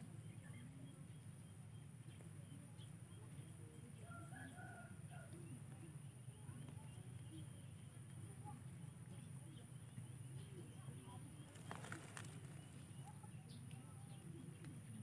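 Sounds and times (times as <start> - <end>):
distant bird calls: 0.0 - 15.0.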